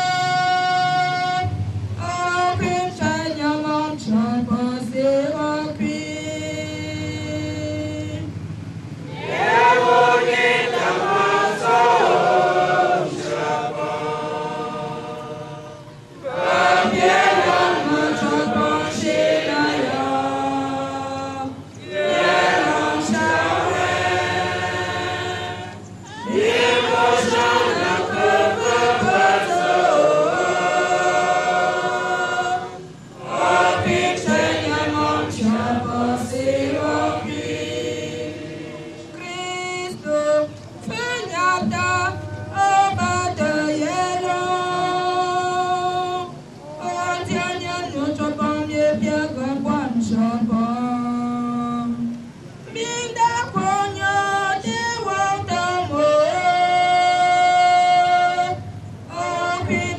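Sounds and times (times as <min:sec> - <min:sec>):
congregation singing a hymn: 0:00.0 - 0:08.3, 0:09.0 - 0:52.0, 0:52.7 - 0:59.9.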